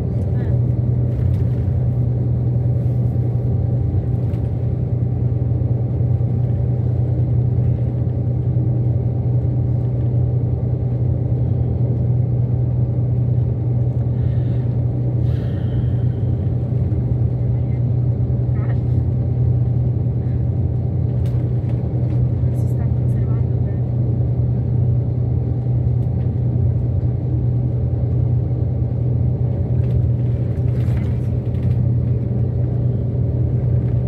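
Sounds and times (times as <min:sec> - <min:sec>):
road and engine rumble in vehicle: 0:00.0 - 0:34.0.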